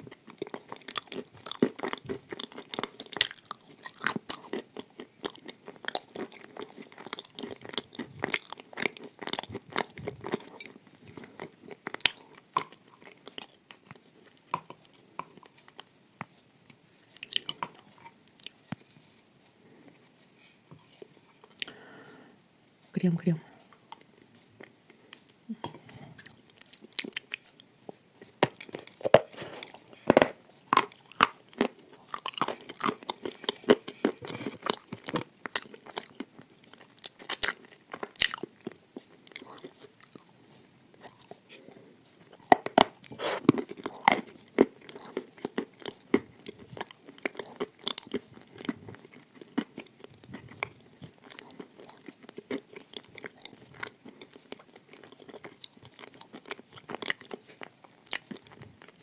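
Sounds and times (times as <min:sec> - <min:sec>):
crunchy food biting and chewing: 0:00.0 - 0:15.9, 0:17.2 - 0:18.6, 0:26.2 - 0:27.6, 0:28.2 - 0:59.0.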